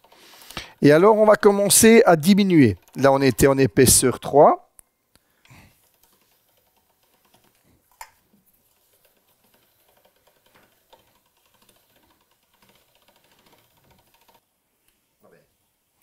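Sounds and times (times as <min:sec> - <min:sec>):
pasta machine rollers clicking: 0:00.0 - 0:04.5, 0:05.4 - 0:15.0.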